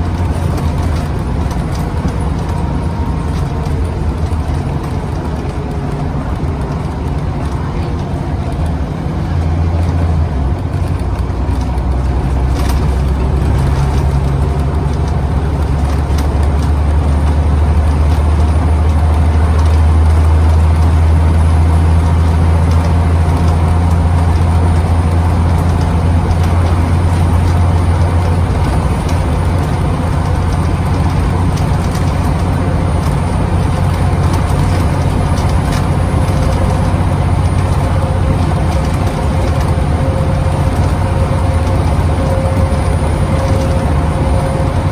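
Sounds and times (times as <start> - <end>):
bus engine under load: 0.0 - 44.9
tyre and road noise: 0.0 - 44.9.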